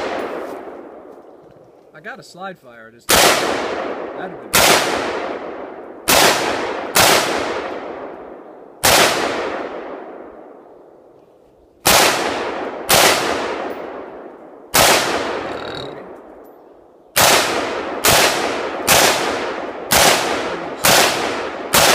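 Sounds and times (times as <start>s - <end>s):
gunshots echoing: 0.0s - 1.2s, 3.1s - 11.1s, 11.8s - 21.9s.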